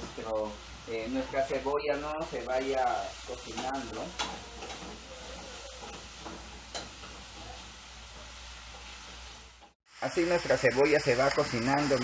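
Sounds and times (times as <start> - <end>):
onion sizzling in hot oil: 0.0 - 12.0.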